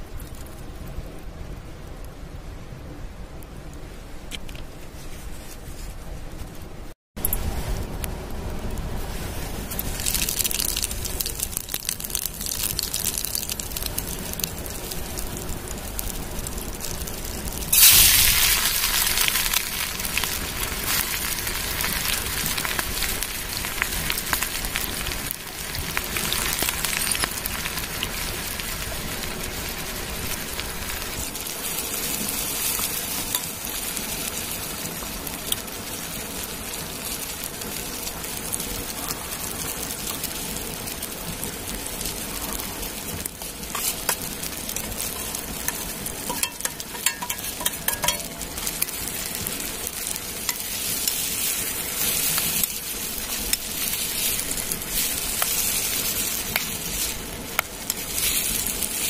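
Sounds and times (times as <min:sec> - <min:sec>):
campfire crackling: 0:00.0 - 0:59.0
loud sizzling hiss: 0:06.7 - 0:59.0.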